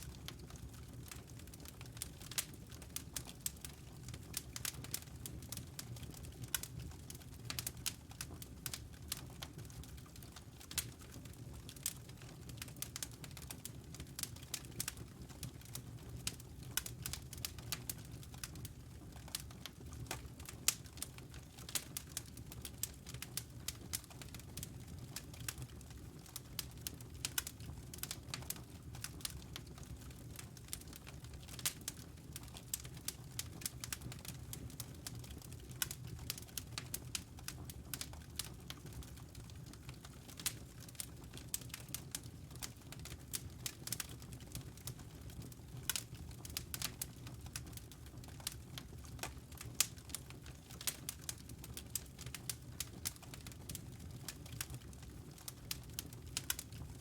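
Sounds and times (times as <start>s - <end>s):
low rumble of flames: 0.0s - 57.0s
logs crackling and popping: 0.1s - 57.0s.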